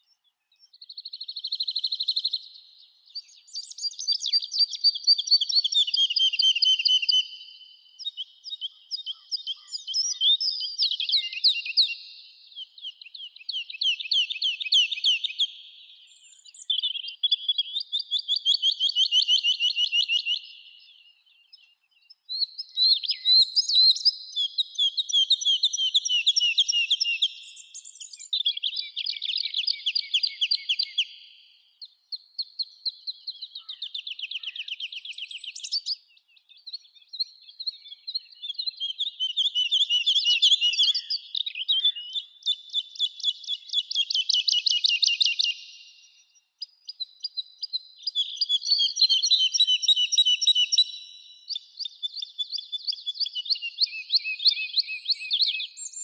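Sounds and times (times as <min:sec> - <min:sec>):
songbirds singing trilled phrases: 0:00.0 - 0:56.0.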